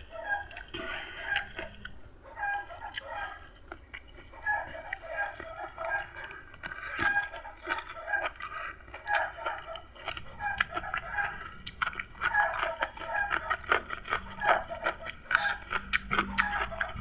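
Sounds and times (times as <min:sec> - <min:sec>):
faint low hum: 0:00.0 - 0:17.0
person chewing and crunching food: 0:00.0 - 0:17.0.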